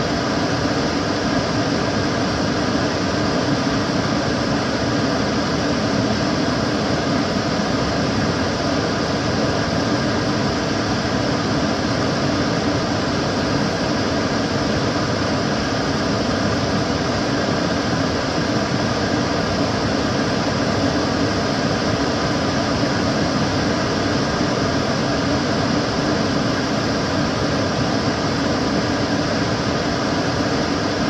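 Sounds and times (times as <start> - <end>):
extractor fan running: 0.0 - 31.0.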